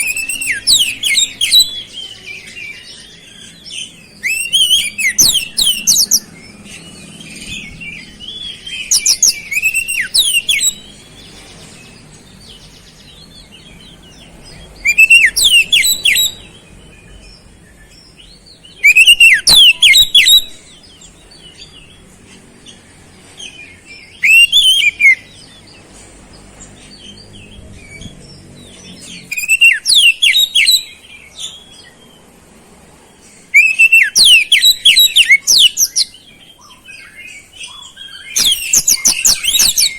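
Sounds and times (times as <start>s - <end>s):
bird singing chirps and whistles: 0.0s - 22.0s, 23.4s - 25.8s, 26.9s - 32.1s, 33.4s - 39.9s.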